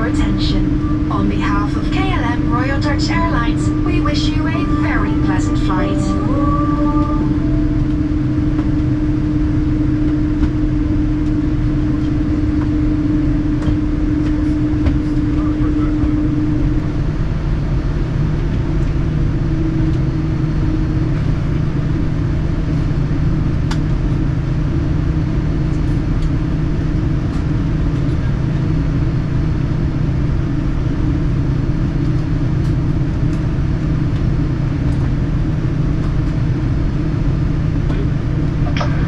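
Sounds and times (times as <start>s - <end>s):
aircraft cabin hum: 0.0s - 39.0s.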